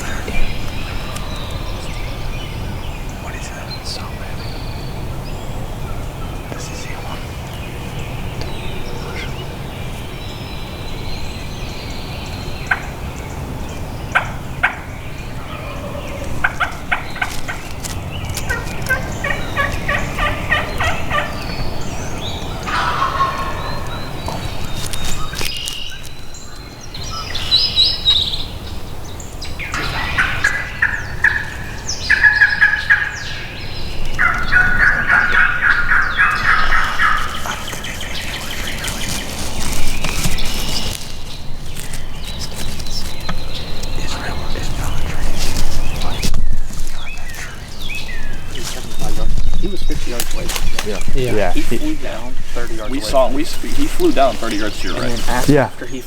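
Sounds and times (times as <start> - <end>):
turkeys gobbling: 0.0 - 25.9, 29.4 - 56.0
songbirds chirping: 0.0 - 56.0.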